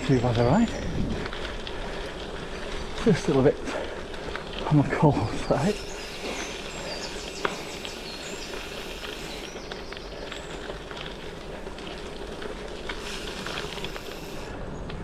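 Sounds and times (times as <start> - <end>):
bike tyres rolling on gravel: 0.0 - 15.0.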